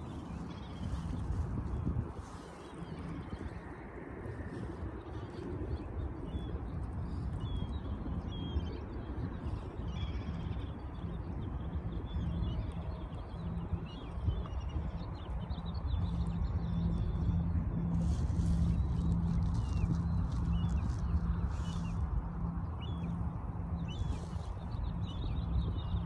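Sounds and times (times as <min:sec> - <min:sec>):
low rumble and hum: 0:00.0 - 0:26.0.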